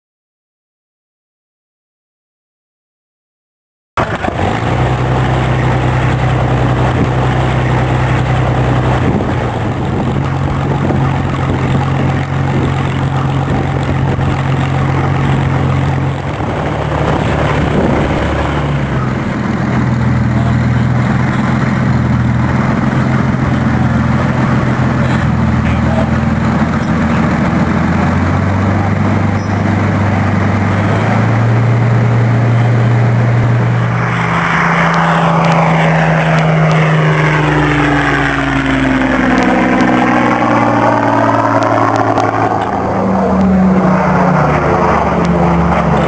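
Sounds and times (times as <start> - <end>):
propeller plane engine running: 4.0 - 46.0.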